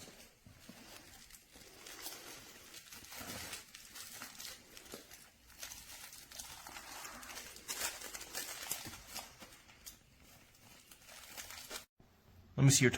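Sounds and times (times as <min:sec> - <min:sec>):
crinkly plush toy rustling: 0:00.0 - 0:11.9.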